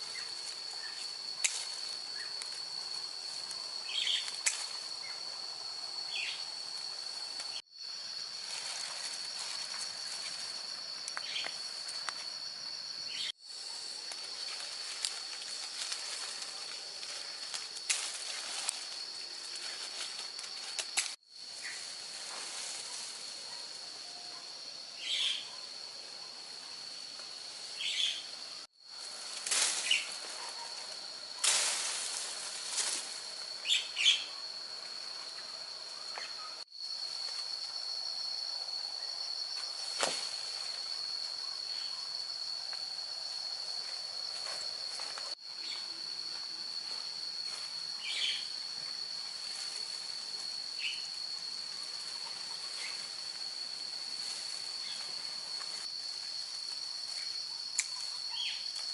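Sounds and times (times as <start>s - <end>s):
insect drone: 0.0s - 58.9s.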